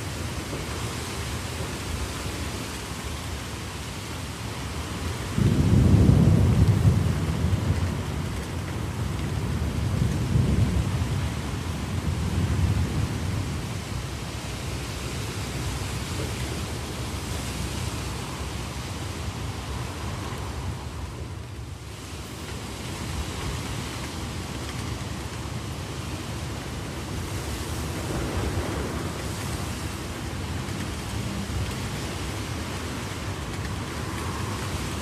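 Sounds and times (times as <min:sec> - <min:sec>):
heavy rain: 0:00.0 - 0:35.0
thunder rumbling: 0:04.4 - 0:21.8, 0:22.6 - 0:35.0.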